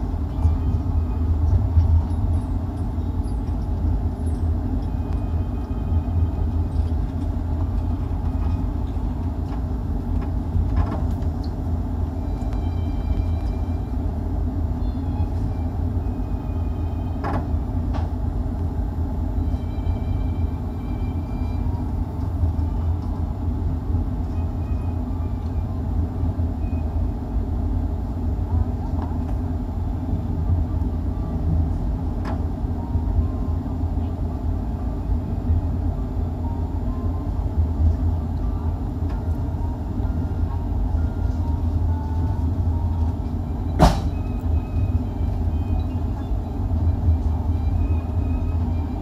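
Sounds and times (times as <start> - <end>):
train coach running rumble: 0.0 - 49.0.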